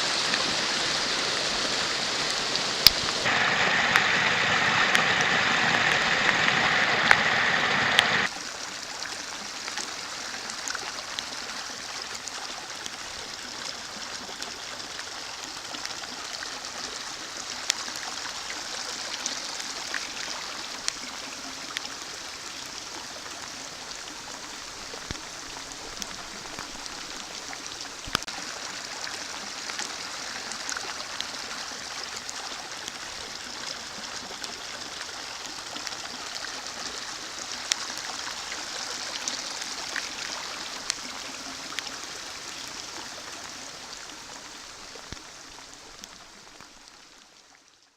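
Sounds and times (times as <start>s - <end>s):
creek water rushing: 0.0s - 47.8s
small ticks and splashes: 8.3s - 47.9s.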